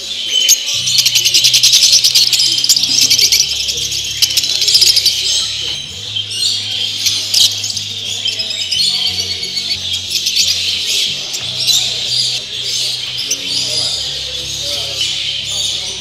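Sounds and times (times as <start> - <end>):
background music with bass: 0.0 - 16.0
birds chirping and chattering: 0.0 - 16.0.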